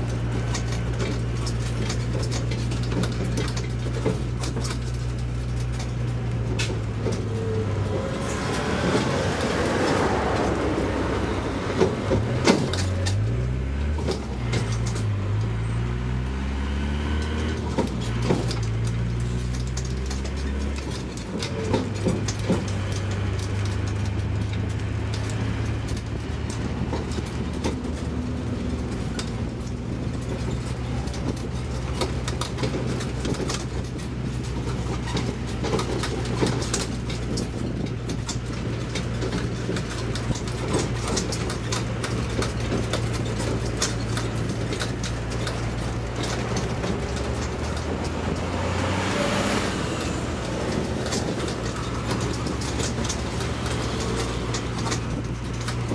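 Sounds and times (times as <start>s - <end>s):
bus passing close: 0.0s - 55.9s
carriages rattling and clicking: 0.0s - 55.9s
engine humming at low speed: 0.0s - 55.9s.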